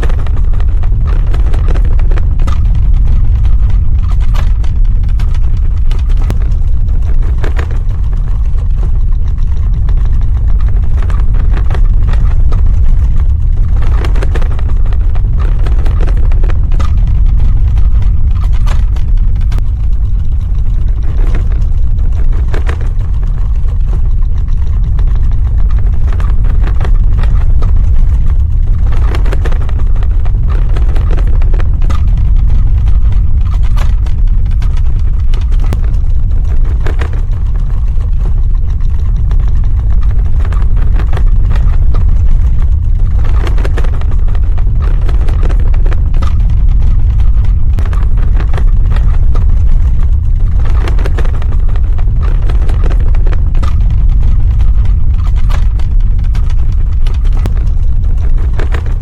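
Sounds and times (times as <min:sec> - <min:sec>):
deep earthquake rumble: 0:00.0 - 0:59.0.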